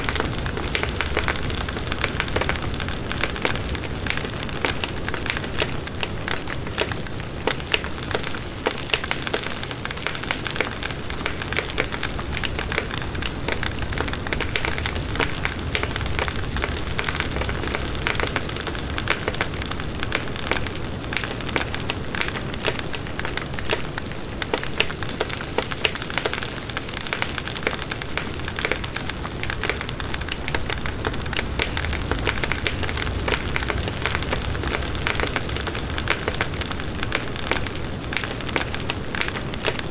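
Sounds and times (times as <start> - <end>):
bonfire crackling: 0.0 - 39.9
low fire rumble: 0.0 - 39.9.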